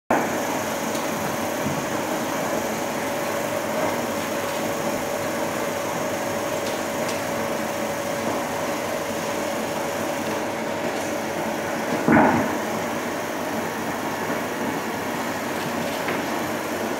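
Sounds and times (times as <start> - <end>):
film projector whirring: 0.1 - 16.9.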